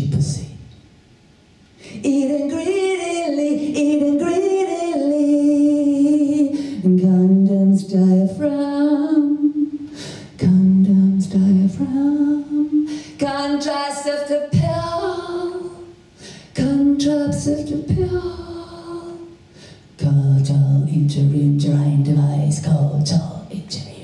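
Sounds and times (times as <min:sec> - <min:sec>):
woman singing unaccompanied: 0:01.9 - 0:24.0.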